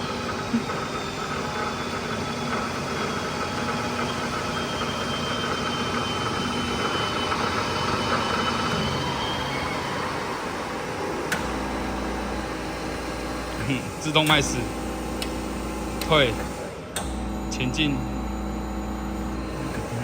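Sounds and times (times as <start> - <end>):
band saw running: 0.0 - 20.0.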